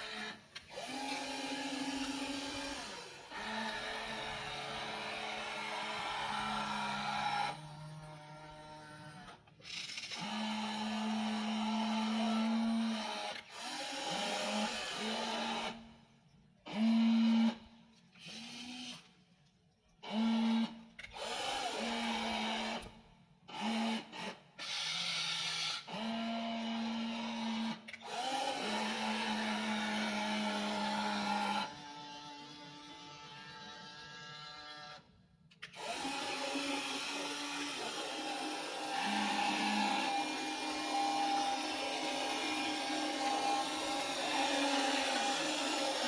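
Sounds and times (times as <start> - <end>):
small electric motors whirring: 0.0 - 19.2, 19.9 - 46.0.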